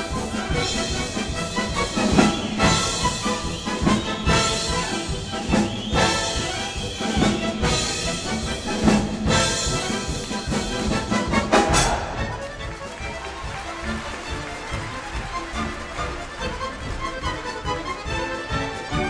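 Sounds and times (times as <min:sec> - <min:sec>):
orchestra playing dance music: 0:00.0 - 0:19.0.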